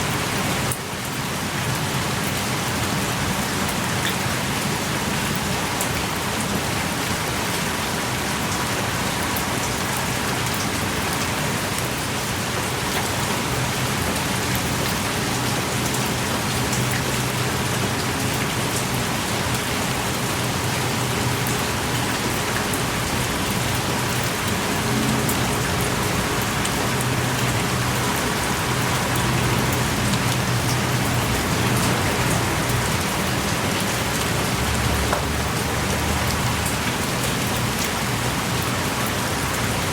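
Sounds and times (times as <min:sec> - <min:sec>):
heavy rain pouring: 0:00.0 - 0:39.9
sharp water drips: 0:00.0 - 0:39.9.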